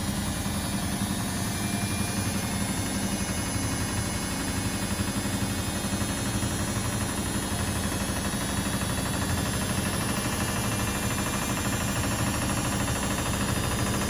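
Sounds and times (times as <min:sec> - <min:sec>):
washing machines and dryers humming: 0:00.0 - 0:14.0.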